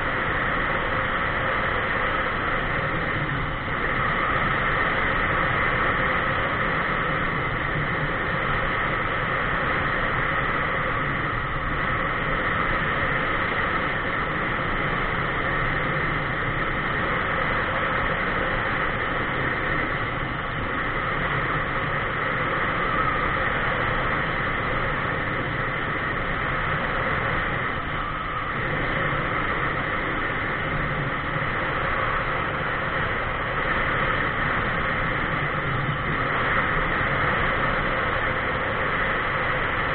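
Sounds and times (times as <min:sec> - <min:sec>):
road noise: 0:00.0 - 0:39.9
wind rush: 0:00.0 - 0:39.9.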